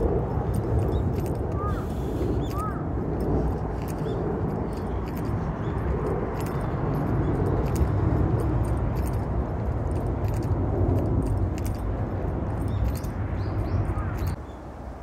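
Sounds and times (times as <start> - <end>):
light clicks and jingles: 0.0 - 14.4
steady low rumble: 0.0 - 15.0.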